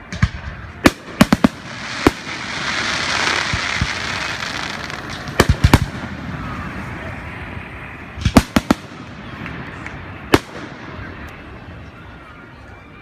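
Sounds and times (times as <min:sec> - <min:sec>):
fireworks bangs: 0:00.0 - 0:11.7
fireworks crackling: 0:00.0 - 0:12.3.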